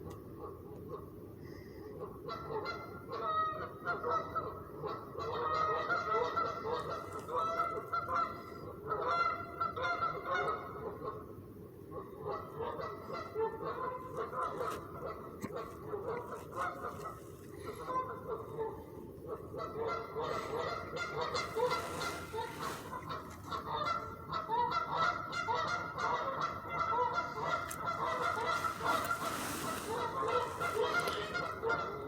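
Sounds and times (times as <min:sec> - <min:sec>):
geese honking: 0:02.3 - 0:11.2, 0:12.2 - 0:32.0.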